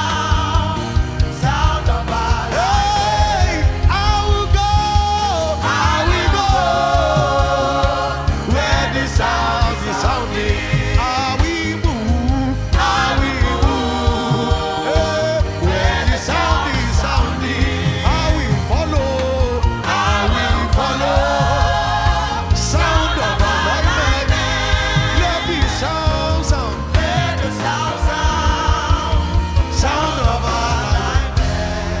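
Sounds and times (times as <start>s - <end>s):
band with steady drum beat: 0.0s - 32.0s
voices singing gospel: 0.0s - 32.0s.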